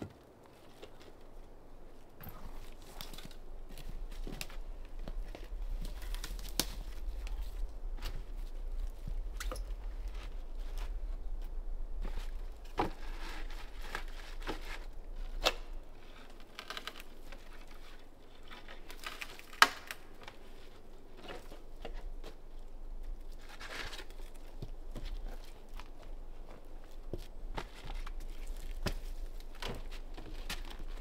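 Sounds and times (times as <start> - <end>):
rustling of roofing material: 0.0 - 31.0.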